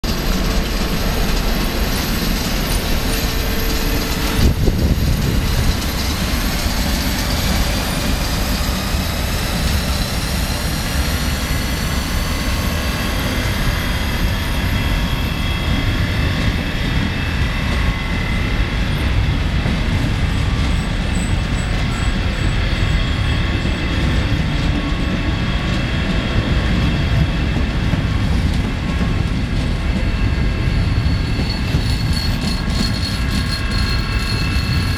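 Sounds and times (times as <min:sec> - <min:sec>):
electric locomotive whine: 0:00.0 - 0:34.9
train wheels rumbling on rails: 0:00.0 - 0:34.9.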